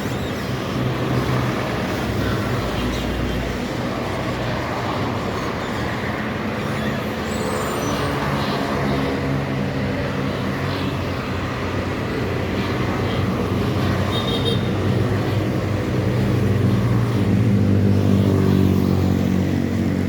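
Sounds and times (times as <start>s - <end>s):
highway road noise: 0.0s - 20.0s.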